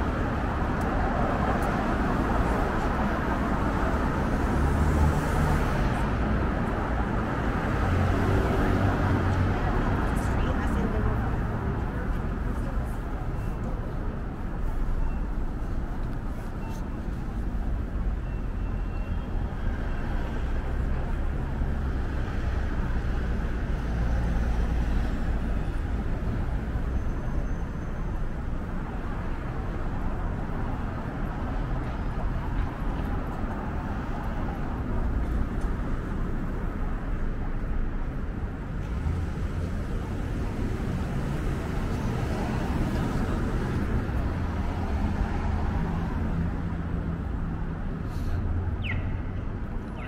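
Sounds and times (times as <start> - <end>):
street traffic passing: 0.0 - 50.0.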